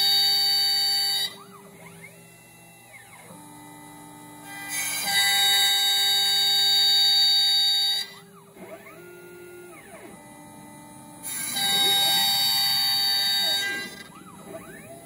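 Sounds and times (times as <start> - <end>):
motor tones varying in pitch: 0.0 - 15.0
router spindle high whine: 0.0 - 15.0.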